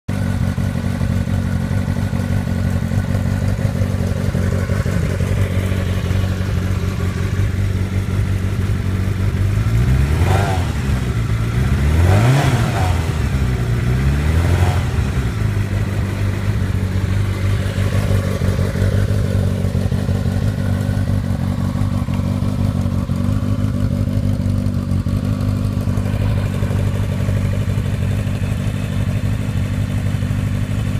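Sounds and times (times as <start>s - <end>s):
motorcycle engine idling: 0.1s - 30.9s
engine revving: 3.0s - 30.9s.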